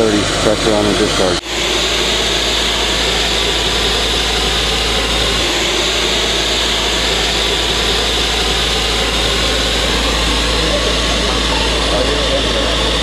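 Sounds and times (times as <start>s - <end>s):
fire engine pump running: 0.0s - 13.0s
water rushing from fire hose: 0.0s - 13.0s.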